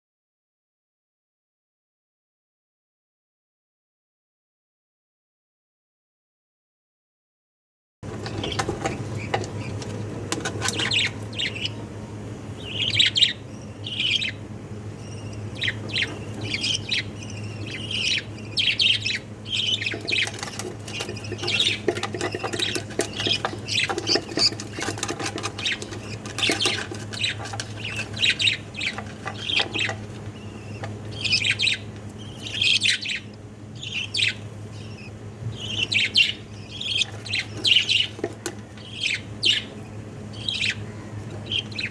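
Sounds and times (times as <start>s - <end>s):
budgerigar chicks chirping: 8.0s - 41.9s
steady low hum: 8.0s - 41.9s.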